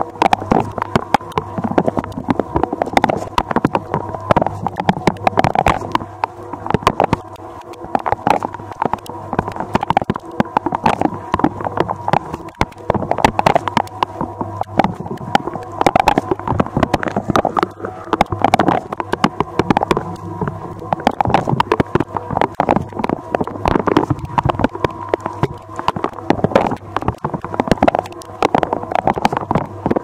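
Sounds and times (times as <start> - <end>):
water jets splashing: 0.0 - 30.0.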